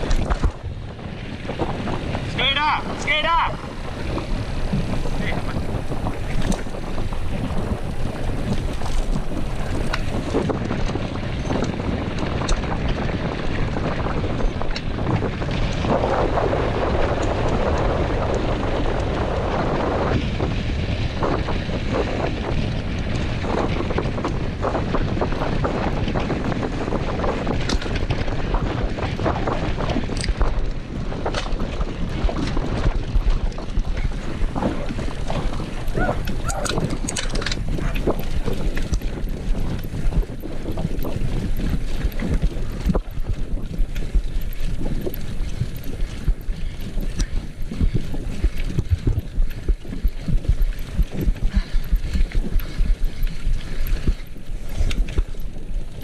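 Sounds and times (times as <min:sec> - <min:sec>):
bike rattles and clicks: 0:00.0 - 0:56.0
tyres on loose dirt: 0:00.0 - 0:56.0
wind rushing over microphone: 0:00.0 - 0:56.0.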